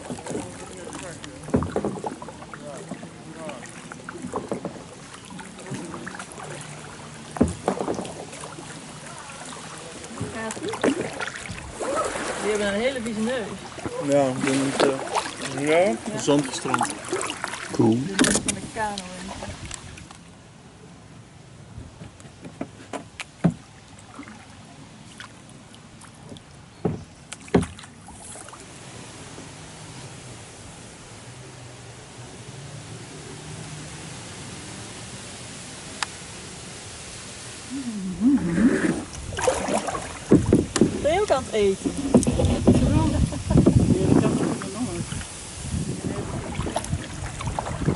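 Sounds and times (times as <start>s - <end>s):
paddles splashing in water: 0.0s - 20.4s, 21.8s - 47.9s.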